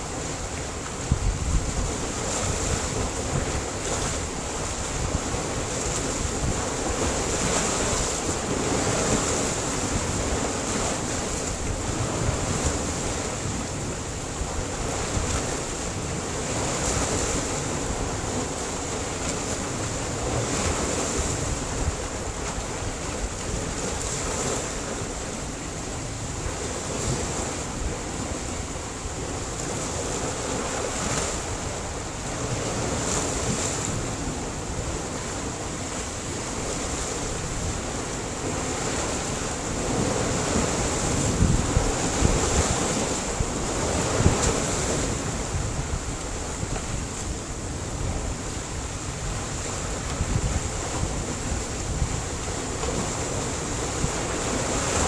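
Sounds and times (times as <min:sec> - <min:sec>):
surf on rocky shore: 0:00.0 - 0:55.0.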